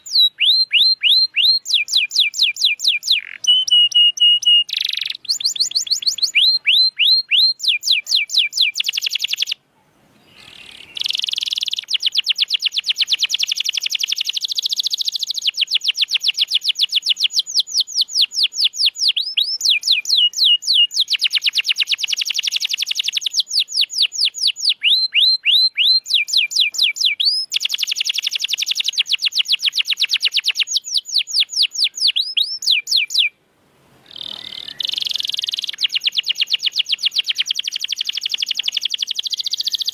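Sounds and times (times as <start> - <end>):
canary singing trills: 0.0 - 33.4, 34.0 - 39.9.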